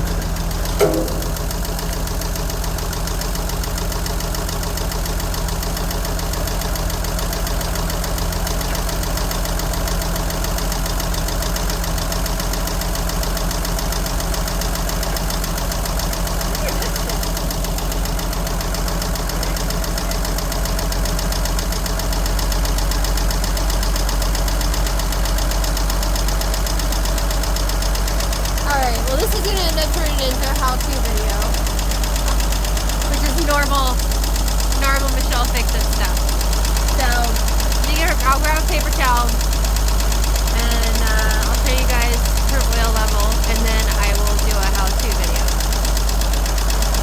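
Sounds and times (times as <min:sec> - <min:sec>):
engine idling: 0:00.0 - 0:47.0
fast even engine ticking: 0:00.0 - 0:47.0.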